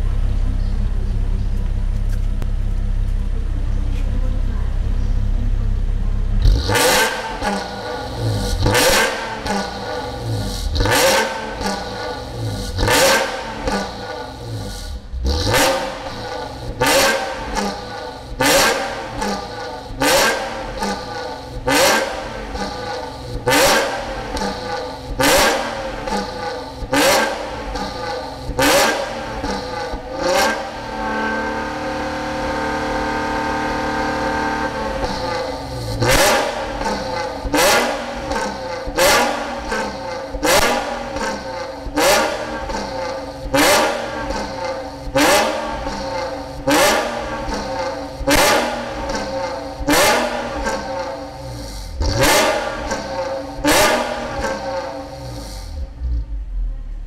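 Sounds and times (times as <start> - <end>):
engine revving: 6.2 - 57.0.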